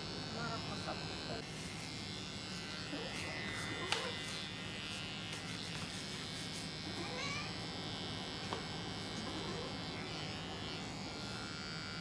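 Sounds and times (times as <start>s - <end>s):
electric hair clippers running: 0.0s - 12.0s.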